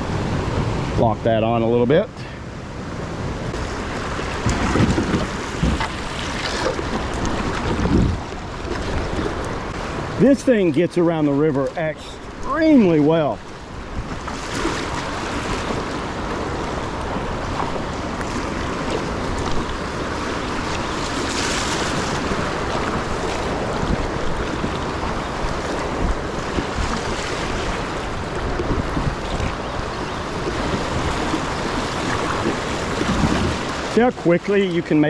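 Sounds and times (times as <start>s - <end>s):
wind buffeting microphone: 0.0s - 10.2s, 12.2s - 35.0s
river current rushing: 0.0s - 35.0s.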